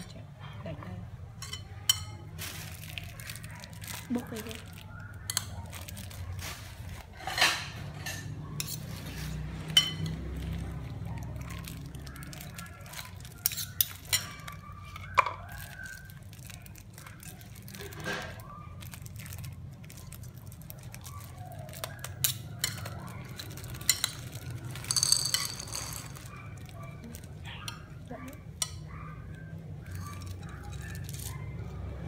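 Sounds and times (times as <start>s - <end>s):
utensils and dishes clinking: 0.0s - 32.0s.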